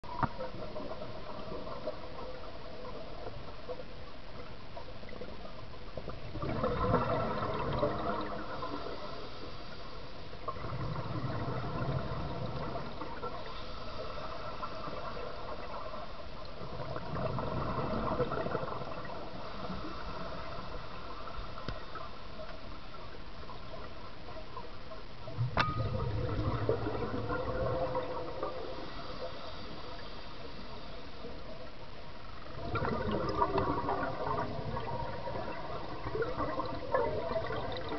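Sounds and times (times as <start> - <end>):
underwater exhaust bubbles: 0.0 - 37.9
steady hiss: 7.1 - 37.9.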